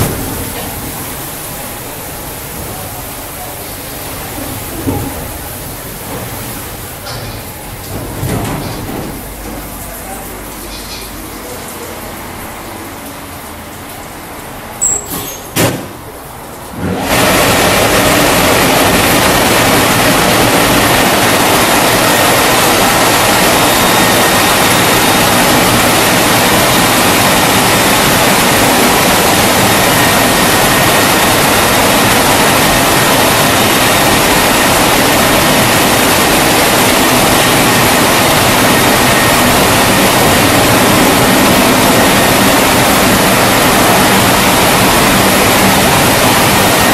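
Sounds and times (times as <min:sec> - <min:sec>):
drying blowers rushing air: 0:00.0 - 0:10.4, 0:15.6 - 0:46.9.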